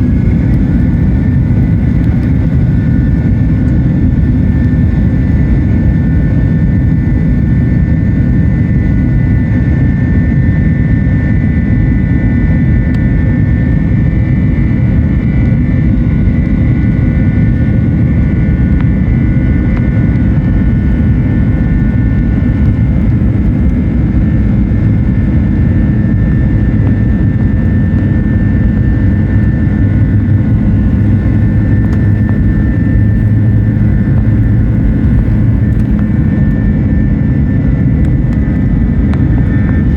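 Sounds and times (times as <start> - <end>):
faint high whine: 0.0 - 39.9
jet engine rumble in cabin: 0.0 - 39.9.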